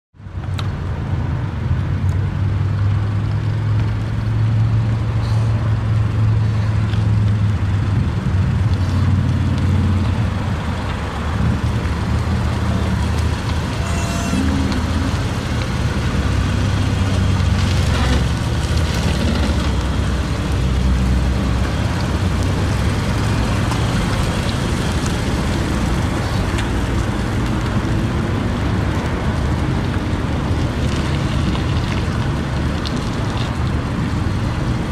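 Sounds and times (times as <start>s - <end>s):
road noise: 0.1s - 34.9s.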